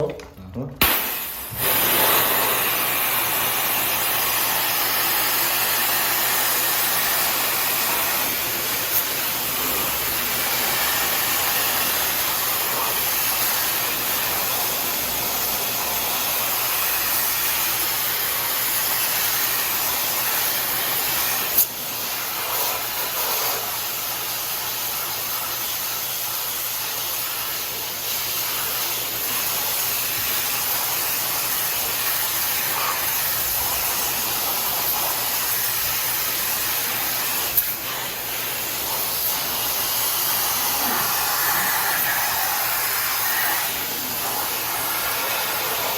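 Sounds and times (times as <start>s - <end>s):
high-pressure water spray hissing: 0.8s - 45.9s.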